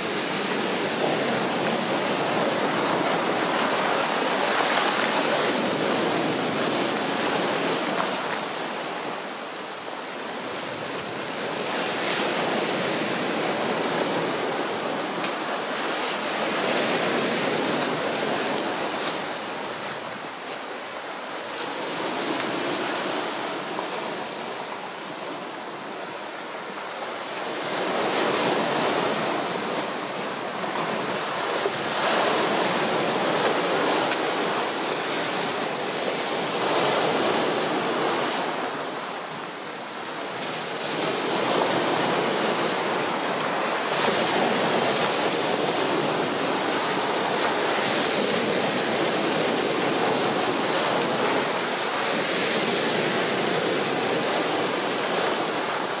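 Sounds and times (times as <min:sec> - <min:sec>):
sea waves breaking on rocks: 0:00.0 - 0:56.0.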